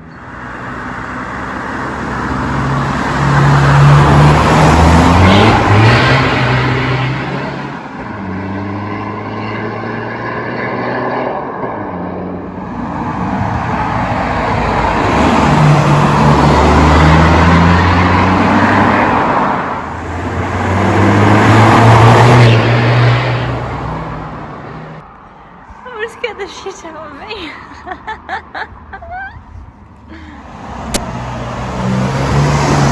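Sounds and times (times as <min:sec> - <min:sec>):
diesel engine accelerating hard: 0:00.0 - 0:25.0, 0:30.1 - 0:32.9.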